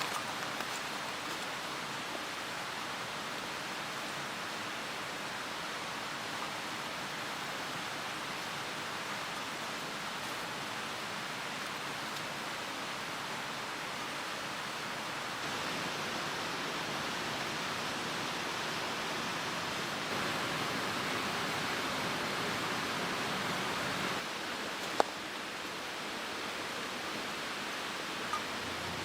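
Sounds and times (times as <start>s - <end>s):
stream rushing: 0.0s - 29.0s.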